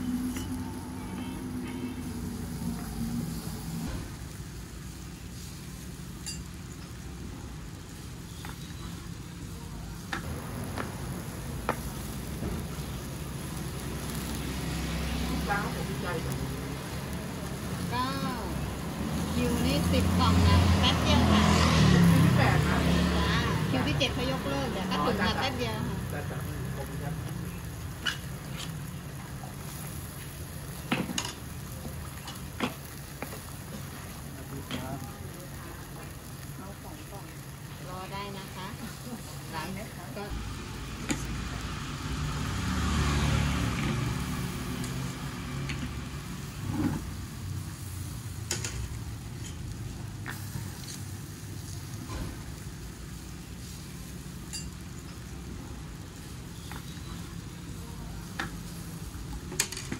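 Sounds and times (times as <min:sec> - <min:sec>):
batter sizzling in a pan: 0:00.0 - 0:59.9.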